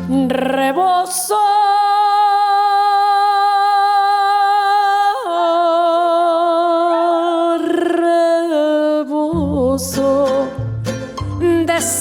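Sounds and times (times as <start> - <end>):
woman singing with vibrato: 0.0 - 12.0.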